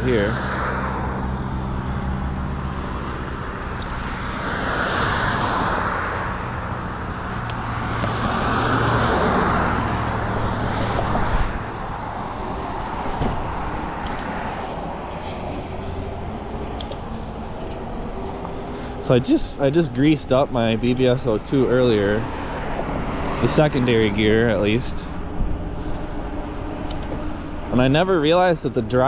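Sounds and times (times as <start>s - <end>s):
passing cars: 0.0s - 29.0s.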